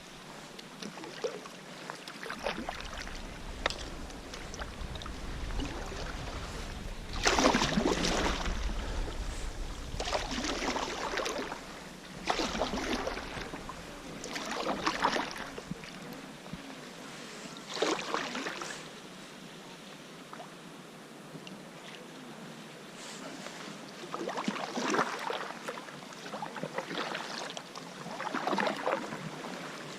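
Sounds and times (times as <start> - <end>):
paddle strokes splashing: 0.0 - 19.0, 23.0 - 29.9.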